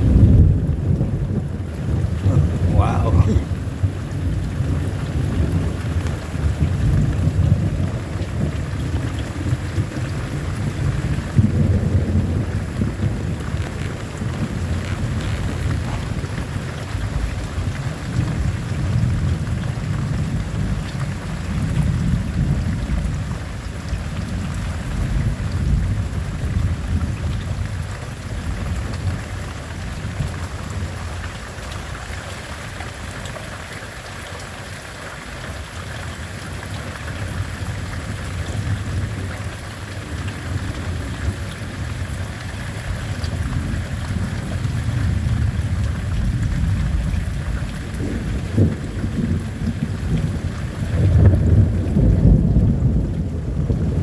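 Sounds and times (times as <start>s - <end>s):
thunder rumbling: 0.0s - 31.3s, 36.5s - 54.0s
steady rain falling: 0.0s - 54.0s.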